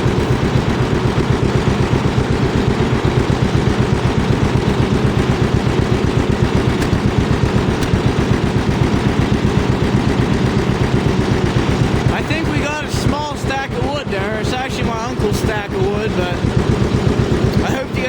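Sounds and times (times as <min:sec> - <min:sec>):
two-cylinder engine popping: 0:00.0 - 0:18.0.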